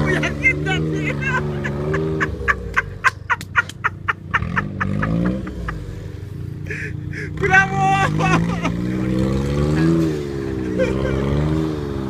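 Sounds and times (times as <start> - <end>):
engine revving in mud: 0.0 - 12.0.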